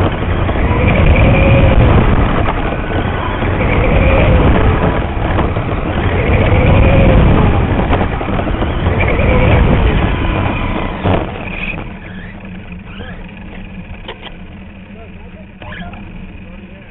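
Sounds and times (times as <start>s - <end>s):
electric motor whine: 0.0s - 16.9s
toy car drivetrain rattling: 0.0s - 16.9s.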